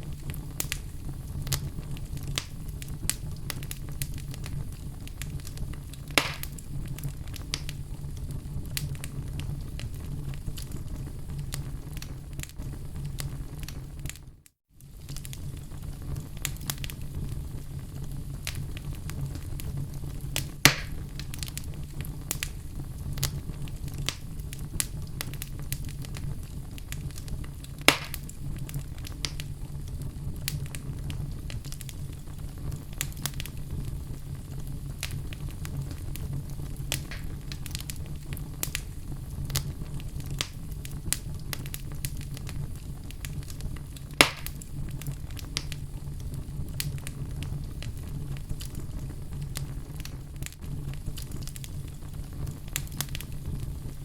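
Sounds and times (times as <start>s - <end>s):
loud sharp pops of fire: 0.0s - 14.2s, 14.8s - 54.0s
fire crackling: 0.0s - 54.0s.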